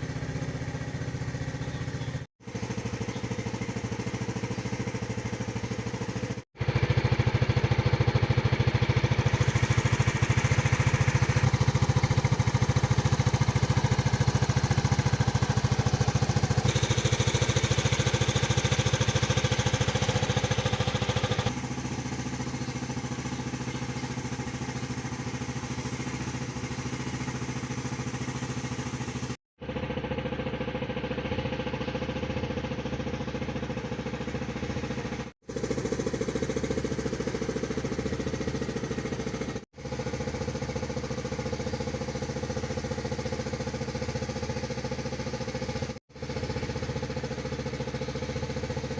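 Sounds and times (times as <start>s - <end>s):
scooter engine running: 0.0s - 48.9s.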